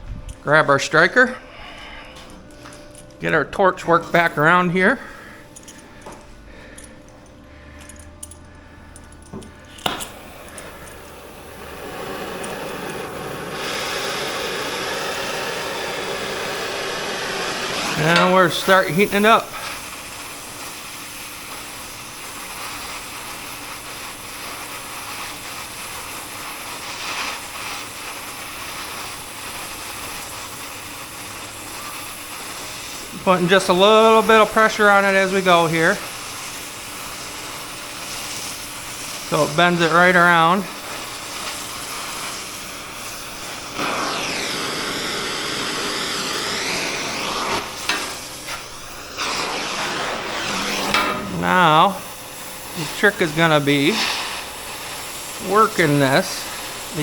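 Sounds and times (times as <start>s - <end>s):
torch flame hissing: 3.7s - 5.7s, 9.1s - 57.0s.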